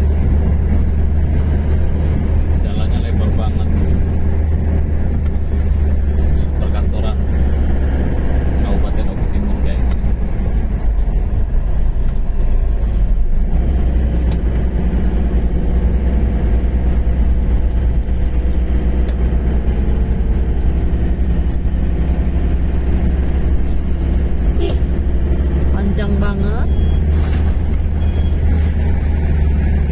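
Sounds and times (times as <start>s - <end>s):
vehicle engine and road noise: 0.0s - 29.9s.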